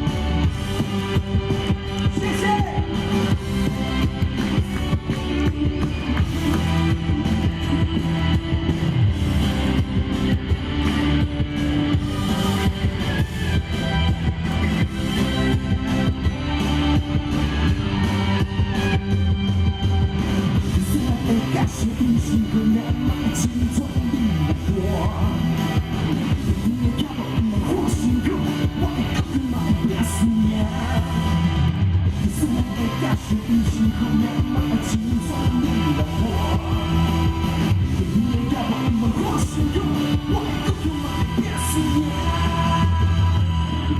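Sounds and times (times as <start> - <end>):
steady drum beat: 0.0 - 43.0
electric guitar: 0.0 - 43.9
live rock band playing: 0.0 - 43.9.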